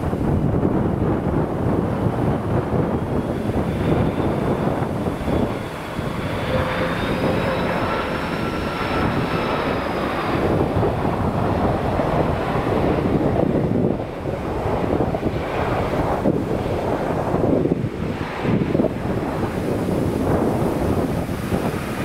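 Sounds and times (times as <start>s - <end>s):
jet airliner passing: 0.0s - 22.0s
wind rumble on microphone: 0.0s - 22.0s.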